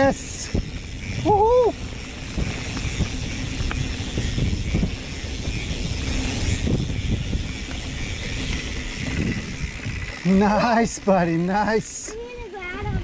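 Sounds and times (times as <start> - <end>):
bike knocking and rattling: 0.0 - 13.0
bike tyres rumbling on dirt: 0.0 - 13.0.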